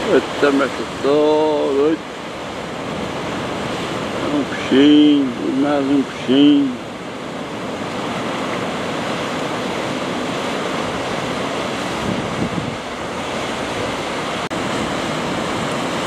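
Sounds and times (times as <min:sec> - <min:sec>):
ocean surf washing over rocks: 0:00.0 - 0:16.0.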